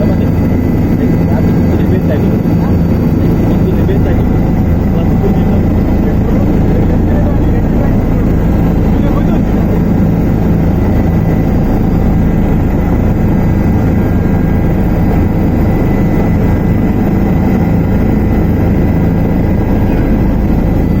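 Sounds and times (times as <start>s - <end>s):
faint steady whine: 0.0s - 21.0s
helicopter engine and rotor rumble: 0.0s - 21.0s.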